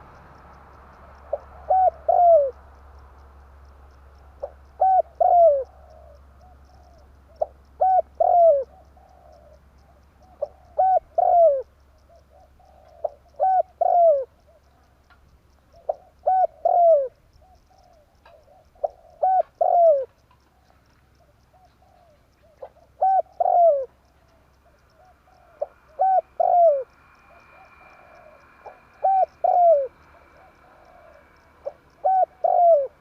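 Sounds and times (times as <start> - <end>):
dove cooing: 1.2 - 2.7, 4.2 - 14.9, 15.6 - 33.0.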